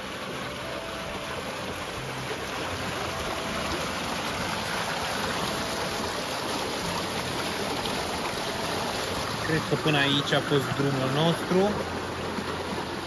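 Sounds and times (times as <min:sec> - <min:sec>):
water rushing in channel: 0:00.0 - 0:13.0.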